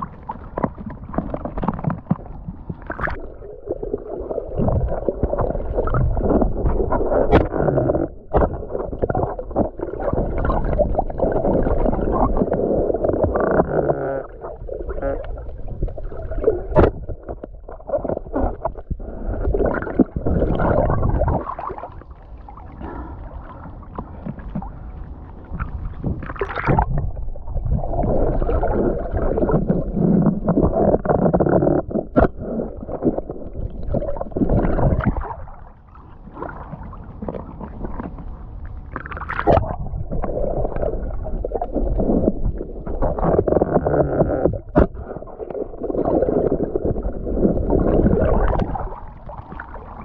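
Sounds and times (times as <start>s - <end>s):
muffled water sloshing: 0.0s - 50.0s.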